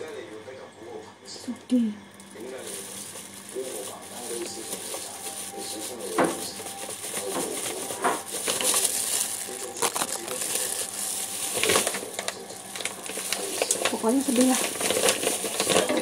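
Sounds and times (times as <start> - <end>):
plastic bag crinkling: 2.2 - 16.0.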